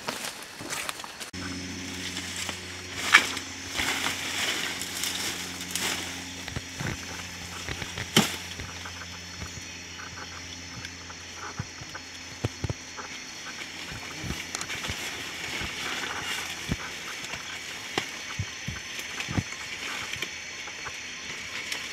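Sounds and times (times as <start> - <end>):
dry leaves rustling and snapping: 0.0 - 21.9
faint drone: 0.3 - 21.9.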